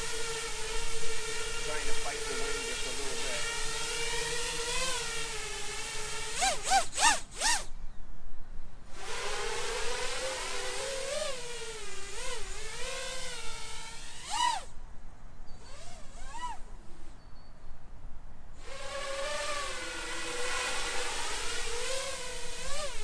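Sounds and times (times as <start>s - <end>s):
short sharp motor blips: 0.0s - 7.7s, 9.1s - 14.7s, 15.5s - 17.3s, 18.6s - 23.0s
quadcopter motors whining: 0.0s - 7.9s, 8.8s - 14.8s, 15.4s - 17.5s, 18.5s - 23.0s.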